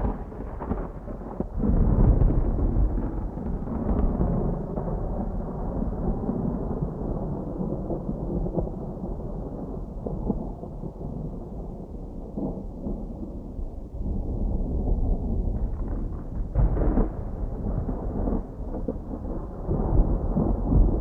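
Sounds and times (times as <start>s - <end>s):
distant thunder rumbling: 0.0s - 21.0s.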